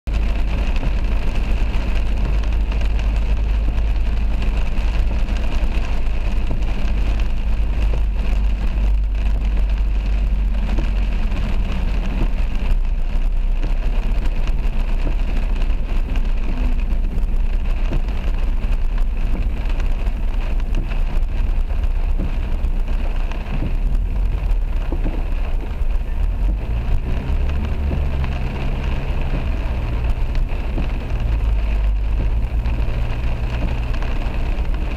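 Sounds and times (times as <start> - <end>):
car driving on wet road: 0.0 - 34.9
heavy rain on car windscreen: 0.1 - 34.9.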